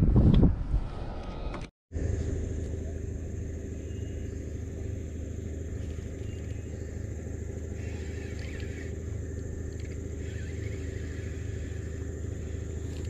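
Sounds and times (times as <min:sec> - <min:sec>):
low motor hum: 0:00.0 - 0:13.0
thin high whine: 0:00.9 - 0:13.0.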